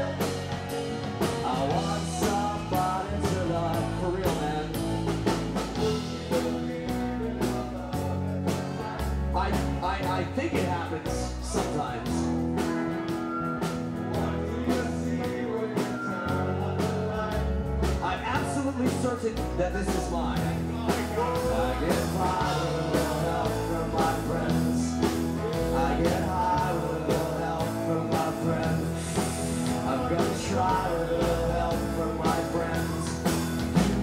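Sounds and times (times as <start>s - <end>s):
man singing: 0.0s - 34.0s
rock band playing live: 0.0s - 34.0s.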